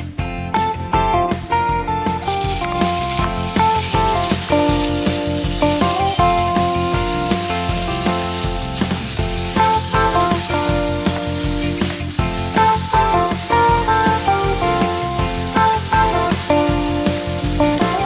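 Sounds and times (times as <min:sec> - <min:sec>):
background music with a beat: 0:00.0 - 0:18.0
bacon sizzling in a frying pan: 0:02.2 - 0:18.0
wooden spatula stirring: 0:02.5 - 0:18.0.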